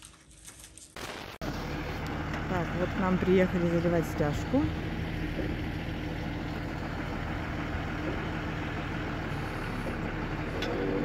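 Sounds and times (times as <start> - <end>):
diesel engine idling: 1.4 - 11.0.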